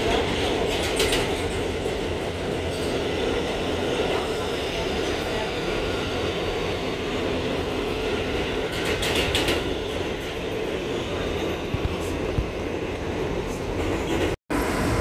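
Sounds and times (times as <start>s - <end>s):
subway train rumble and rattle: 0.0s - 15.0s.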